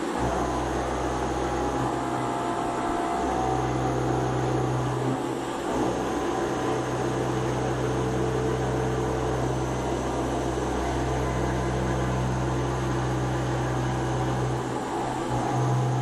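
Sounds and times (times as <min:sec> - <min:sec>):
cnc machine humming and hissing: 0:00.0 - 0:16.0.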